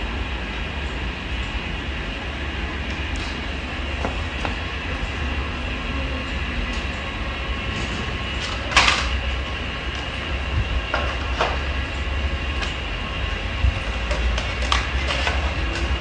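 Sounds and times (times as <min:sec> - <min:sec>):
welding machine humming: 0:01.4 - 0:16.0.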